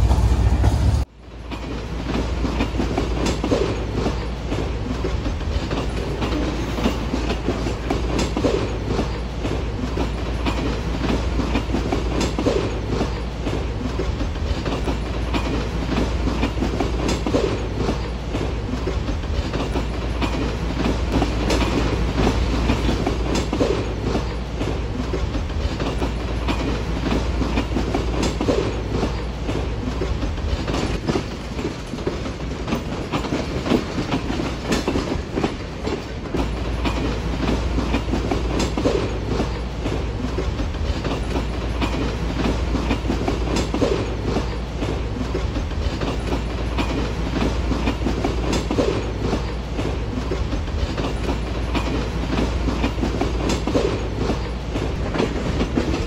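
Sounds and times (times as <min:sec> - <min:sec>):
train rumbling: 0:00.0 - 0:56.0
train wheels clacking on rail joints: 0:00.0 - 0:56.0.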